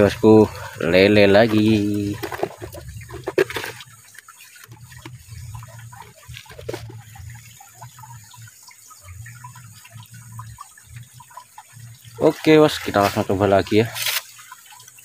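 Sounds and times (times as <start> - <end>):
small water drips: 0.0 - 15.0
stream water gurgling into pool: 0.0 - 15.0.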